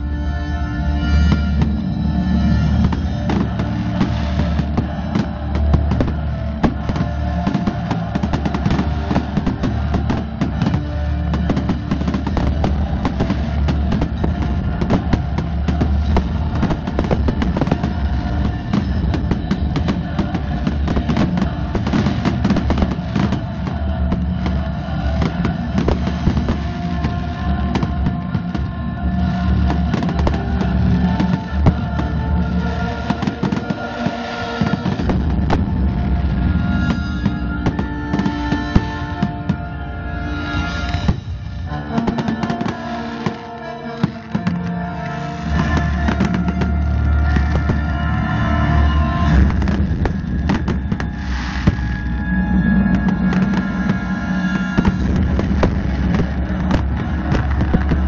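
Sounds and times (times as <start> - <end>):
loud music: 0.0 - 58.0
fireworks bursting: 1.0 - 58.0.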